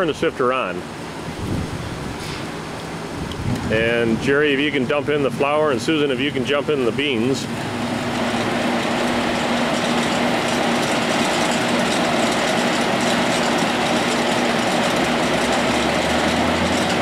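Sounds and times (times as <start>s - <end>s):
sifter machine humming: 0.0s - 17.0s.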